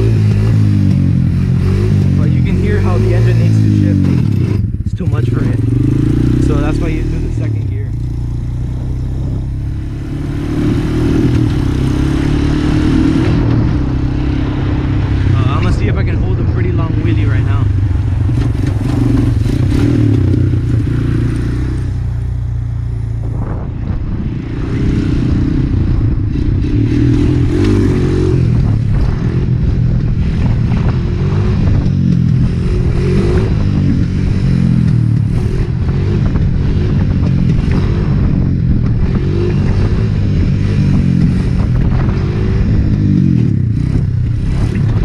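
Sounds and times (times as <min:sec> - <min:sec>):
quad engine revving: 0:00.0 - 0:45.0.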